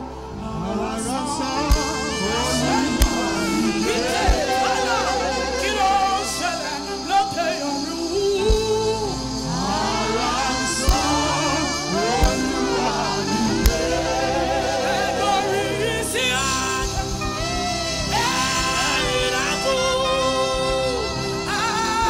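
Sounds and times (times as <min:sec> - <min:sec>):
live band: 0:00.0 - 0:22.0
women singing gospel: 0:00.0 - 0:22.0.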